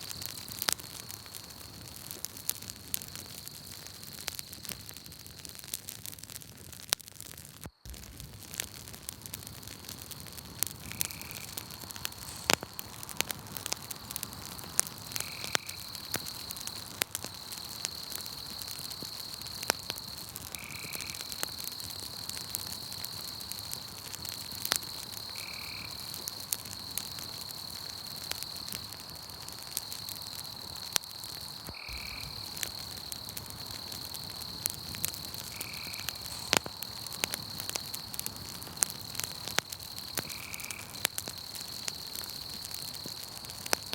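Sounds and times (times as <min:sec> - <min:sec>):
night insects trilling: 0:00.0 - 0:05.8, 0:07.4 - 0:43.9
campfire crackling and popping: 0:00.0 - 0:43.9.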